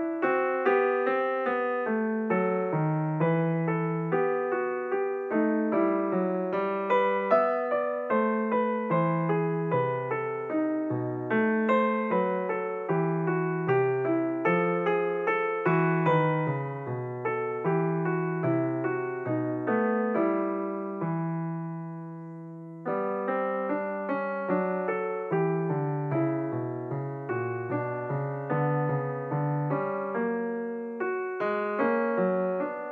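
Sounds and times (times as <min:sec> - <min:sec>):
solo piano music: 0:00.0 - 0:32.9.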